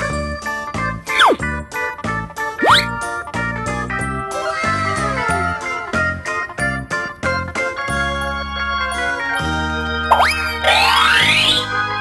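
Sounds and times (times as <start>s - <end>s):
bouncy electronic organ music: 0.0s - 12.0s.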